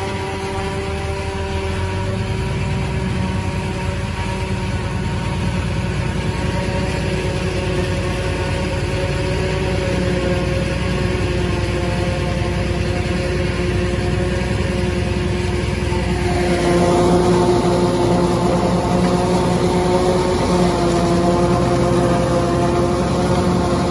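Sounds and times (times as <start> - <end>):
engines droning: 0.0 - 23.9
forage harvester chopping corn: 0.0 - 23.9.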